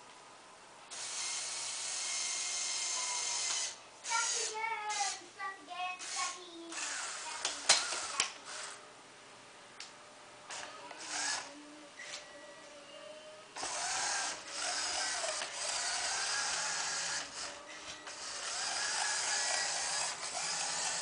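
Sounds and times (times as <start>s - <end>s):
toy motors and gears whirring: 0.9s - 8.8s, 10.5s - 12.2s, 13.6s - 21.0s.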